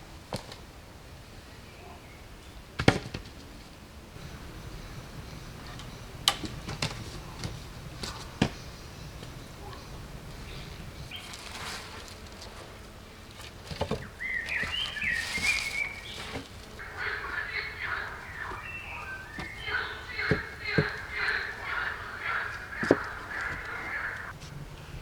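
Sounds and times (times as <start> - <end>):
wood sticks knocking: 4.2 - 24.3.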